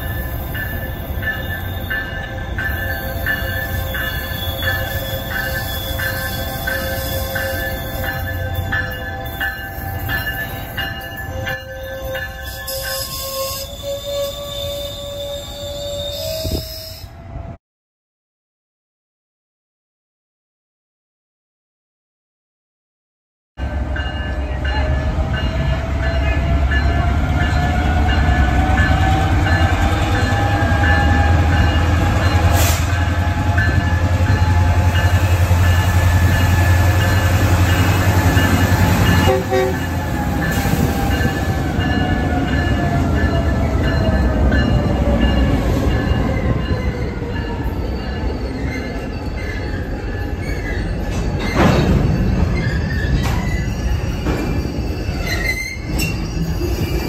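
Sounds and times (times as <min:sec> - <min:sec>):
train wheels squealing and clanking: 0:00.0 - 0:17.2, 0:24.0 - 0:57.0.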